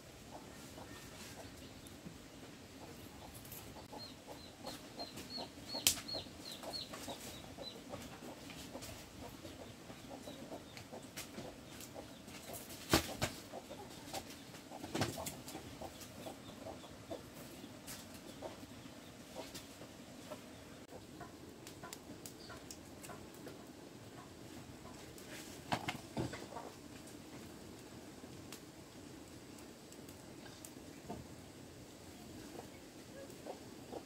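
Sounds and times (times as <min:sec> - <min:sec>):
chickens clucking: 0:00.2 - 0:27.5, 0:32.1 - 0:34.0.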